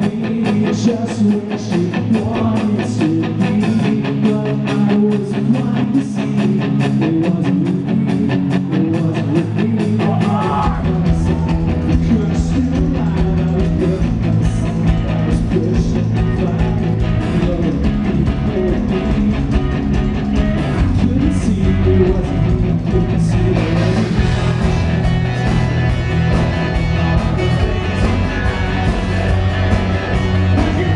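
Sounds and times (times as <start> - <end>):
live rock band playing: 0.0 - 30.9.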